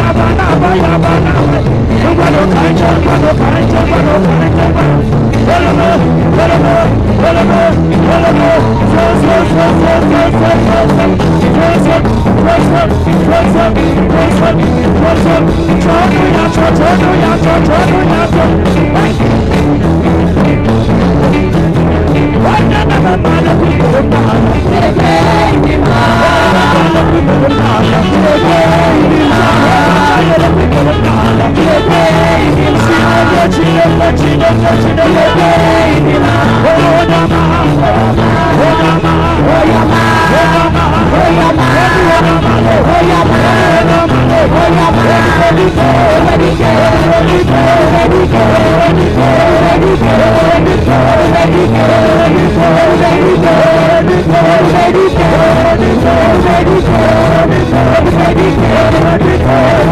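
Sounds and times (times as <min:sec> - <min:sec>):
live gospel band playing: 0:00.0 - 0:59.9
person singing: 0:00.0 - 0:59.9.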